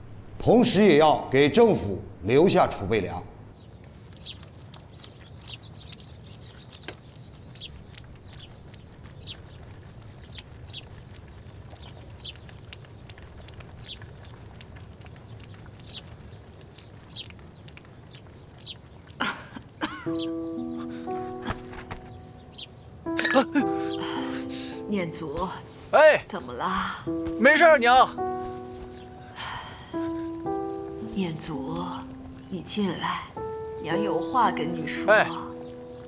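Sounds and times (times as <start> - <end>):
small birds chirping: 3.0 - 36.0.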